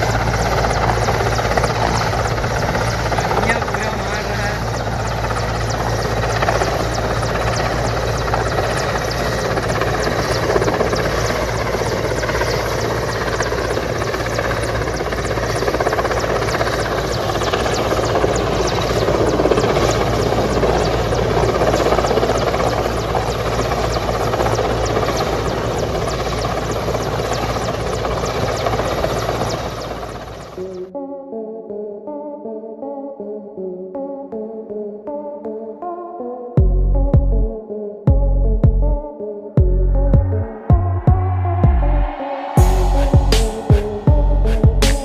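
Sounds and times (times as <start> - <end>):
helicopter hovering: 0.0 - 45.0.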